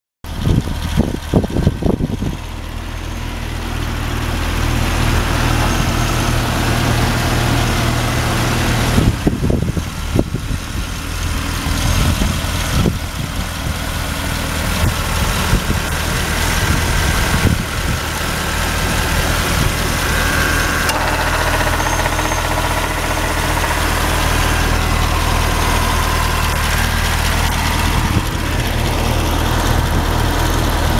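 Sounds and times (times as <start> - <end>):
car engine idling: 0.3 - 30.9.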